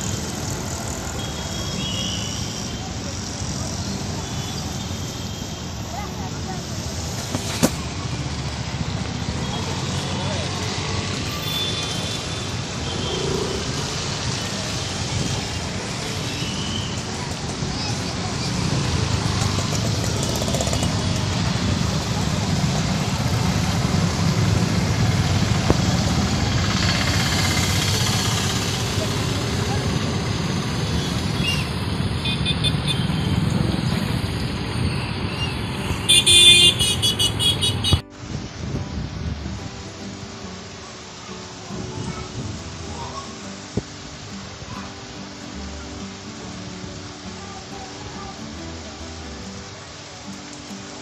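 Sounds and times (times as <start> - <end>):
road traffic on bridge: 0.0 - 51.0.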